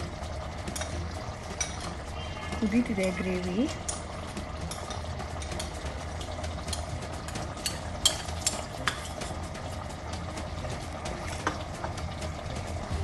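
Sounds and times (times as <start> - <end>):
gravy bubbling in a pot: 0.0 - 13.0.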